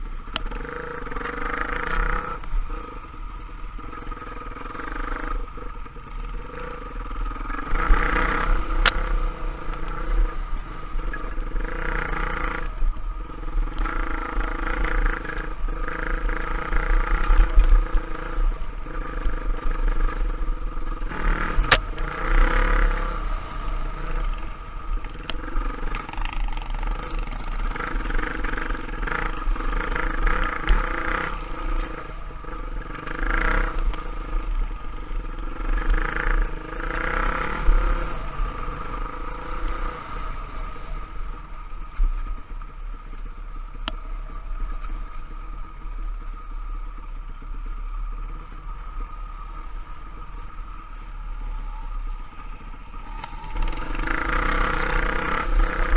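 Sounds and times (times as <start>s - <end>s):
motorbike engine revving: 0.0s - 44.7s, 52.6s - 55.9s.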